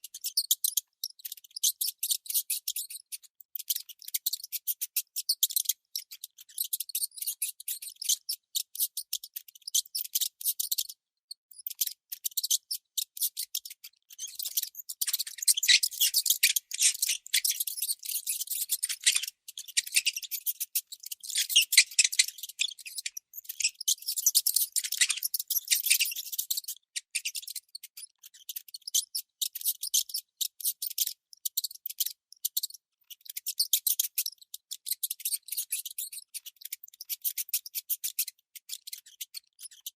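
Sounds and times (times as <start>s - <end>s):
mouse squeaking: 0.0s - 39.9s.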